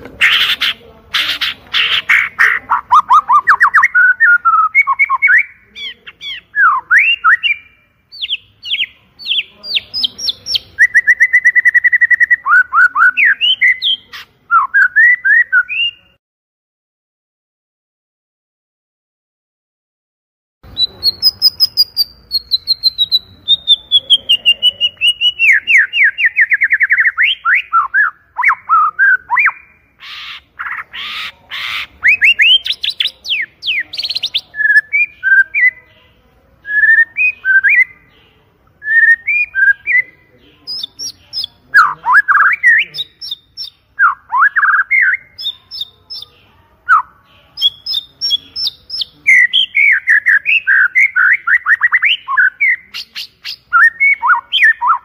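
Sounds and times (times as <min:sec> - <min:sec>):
songbird singing: 0:00.0 - 0:16.2, 0:20.6 - 0:55.0.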